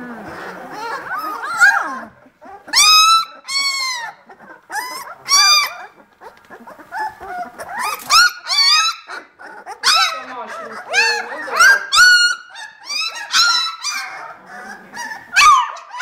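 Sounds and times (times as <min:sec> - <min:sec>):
puppies squealing and whining: 0:00.0 - 0:16.0.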